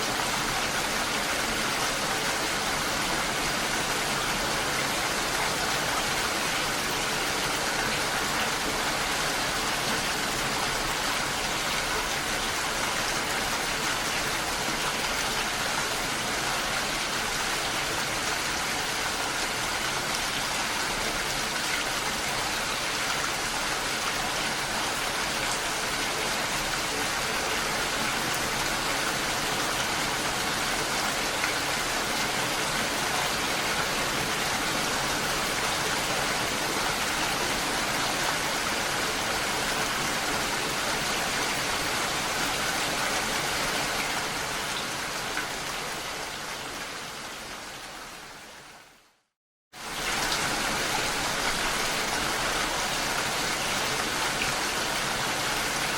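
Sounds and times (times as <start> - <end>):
rain and falling water: 0.0 - 55.9.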